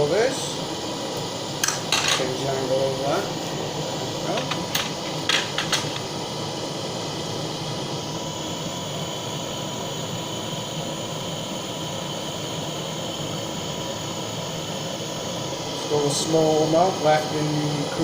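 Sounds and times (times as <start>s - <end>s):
blowtorch flame hissing: 0.0s - 18.0s.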